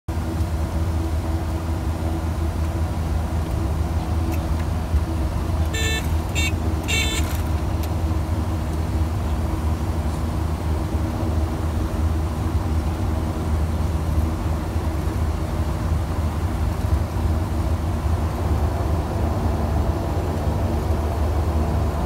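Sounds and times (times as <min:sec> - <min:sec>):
turboprop engines droning in cabin: 0:00.1 - 0:22.0.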